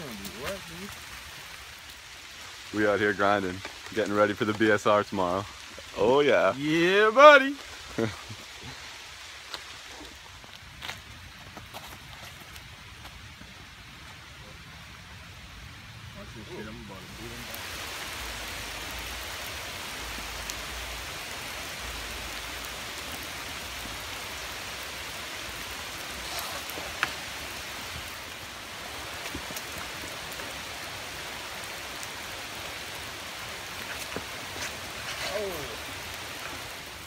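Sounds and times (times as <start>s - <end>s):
rain falling on trees: 0.0s - 37.0s.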